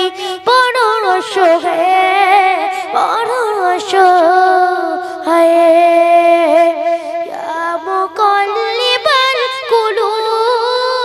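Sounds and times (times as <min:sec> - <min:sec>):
boy singing into a microphone: 0:00.0 - 0:11.0.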